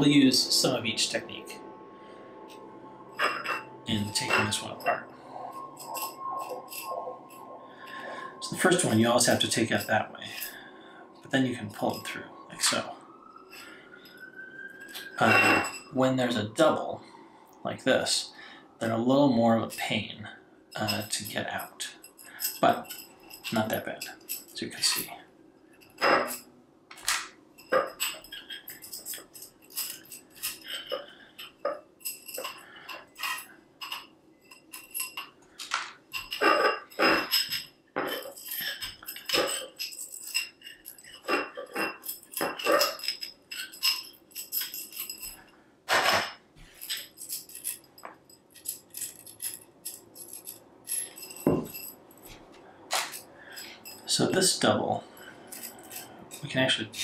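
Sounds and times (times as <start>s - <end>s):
connectors clicking and jangling: 3.2s - 10.6s, 13.6s - 16.0s, 20.7s - 57.0s.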